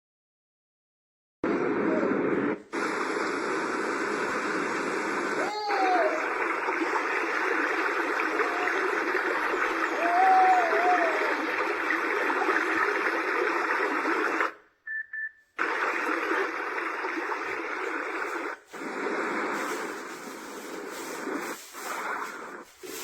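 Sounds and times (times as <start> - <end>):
white noise from toy speaker: 1.5 - 14.6, 15.6 - 23.0.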